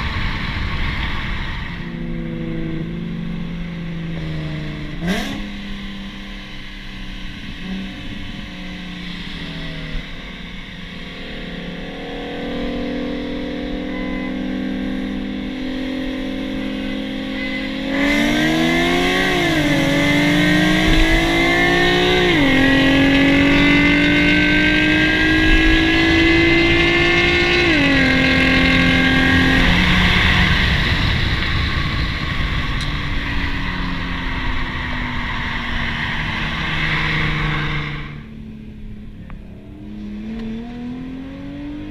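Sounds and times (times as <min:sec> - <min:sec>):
car engine accelerating through gears: 0:00.0 - 0:41.9.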